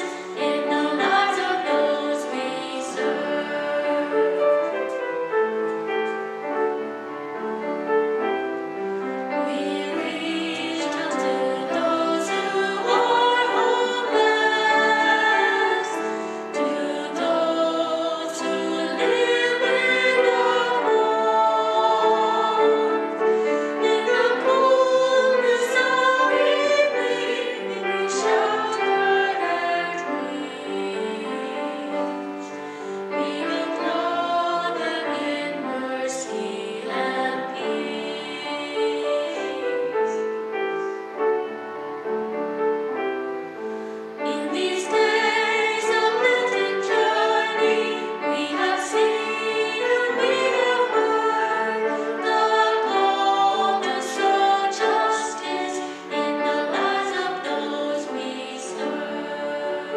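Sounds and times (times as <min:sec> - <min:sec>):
piano accompaniment: 0:00.0 - 0:59.9
voices singing a hymn: 0:00.0 - 0:59.9.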